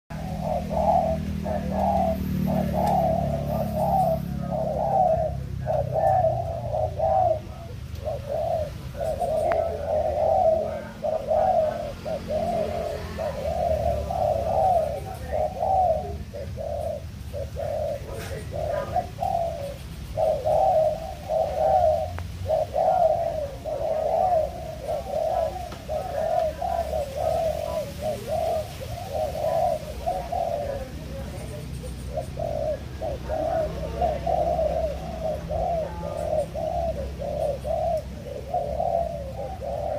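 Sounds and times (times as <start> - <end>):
dove cooing: 0.1 - 39.9.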